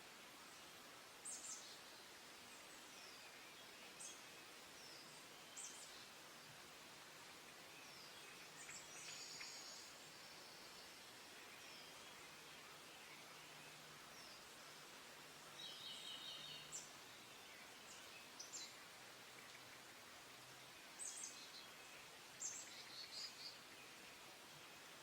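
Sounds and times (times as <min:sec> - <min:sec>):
faint steady hiss: 0:00.0 - 0:25.0
small birds chirping and trilling: 0:01.2 - 0:06.6, 0:07.4 - 0:25.0.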